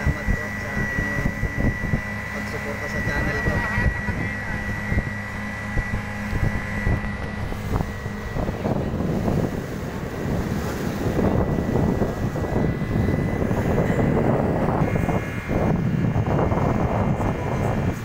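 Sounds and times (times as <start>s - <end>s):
motorboat engine running: 0.0s - 18.0s
water rushing: 0.0s - 18.0s
wind buffeting microphone: 0.0s - 18.0s.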